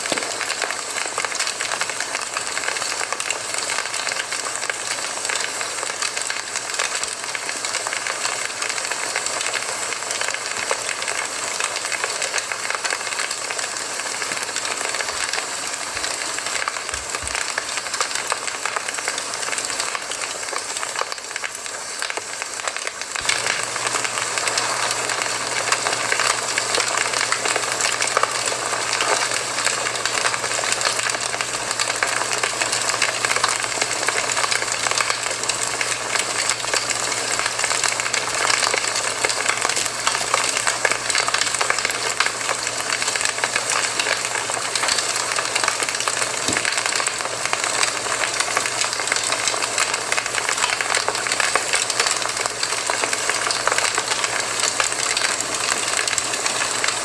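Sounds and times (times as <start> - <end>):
campfire crackling: 0.0 - 21.0, 23.1 - 57.0.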